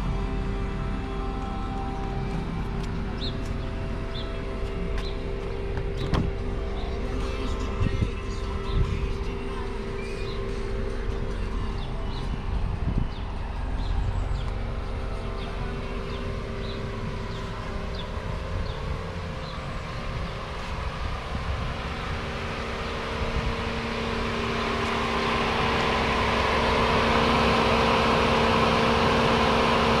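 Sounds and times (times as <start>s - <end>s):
car engine humming: 0.0s - 30.0s.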